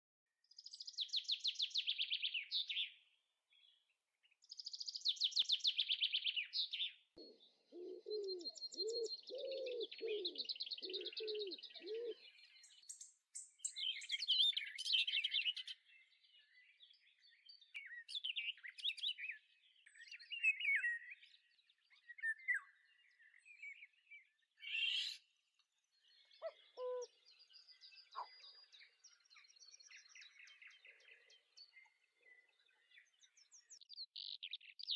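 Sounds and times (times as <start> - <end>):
low evenly spaced bird calls: 0.4 - 34.9
birds chirping and trilling: 0.5 - 34.9.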